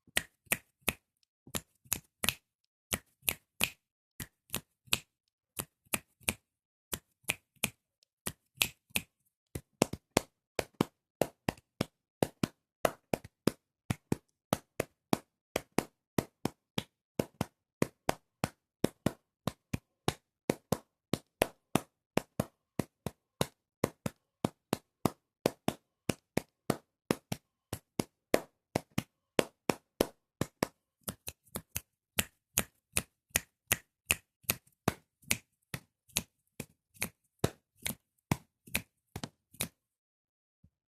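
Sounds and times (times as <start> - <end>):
hand taps snaps and claps: 0.0 - 39.9.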